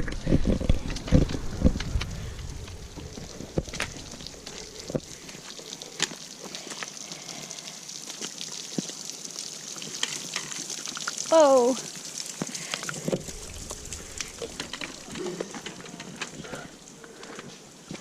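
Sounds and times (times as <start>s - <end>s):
light rain pattering: 0.0s - 18.0s.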